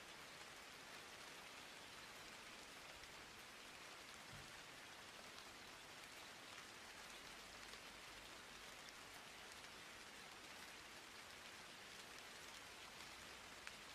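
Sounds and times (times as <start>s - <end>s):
faint steady hiss: 0.0s - 13.9s.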